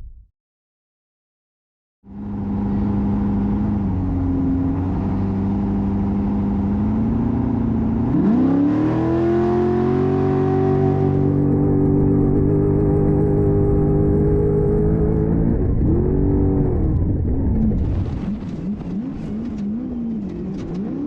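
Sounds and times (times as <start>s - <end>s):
vehicle engine revving: 2.1s - 21.0s.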